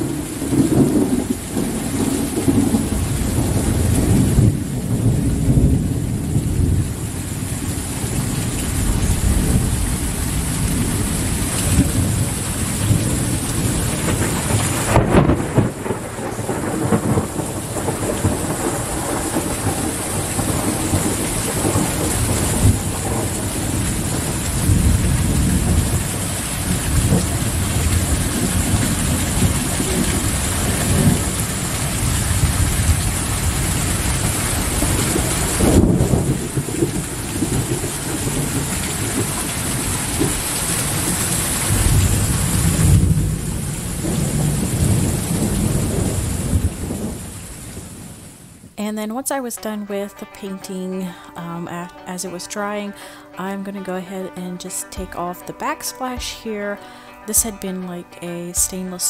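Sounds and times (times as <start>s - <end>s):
low thunder rumbling: 0.0s - 48.8s
steady rain falling: 0.0s - 48.8s.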